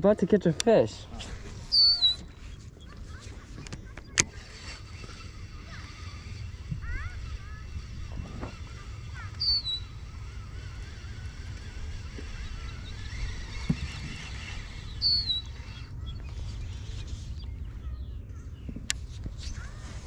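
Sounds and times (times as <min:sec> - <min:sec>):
wind rumble on microphone: 0:01.0 - 0:09.2, 0:09.8 - 0:20.0
thin wavering birdsong: 0:01.0 - 0:20.0
sharp high bird calls: 0:01.6 - 0:18.7.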